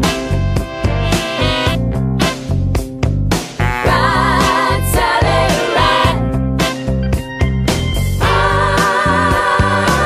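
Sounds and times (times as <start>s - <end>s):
steady music beat: 0.0s - 10.0s.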